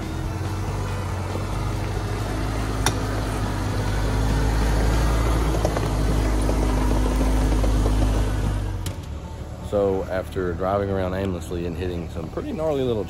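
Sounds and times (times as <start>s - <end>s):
car engine running at crawling speed: 0.0s - 13.0s.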